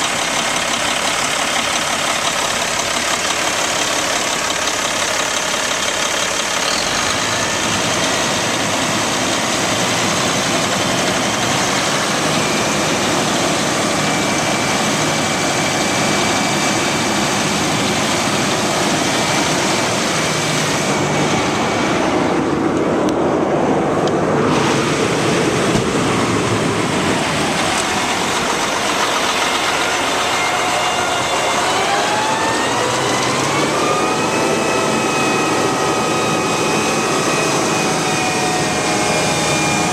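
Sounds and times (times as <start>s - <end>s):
diesel truck engine running: 0.0s - 39.9s
engine revving whine: 0.0s - 39.9s.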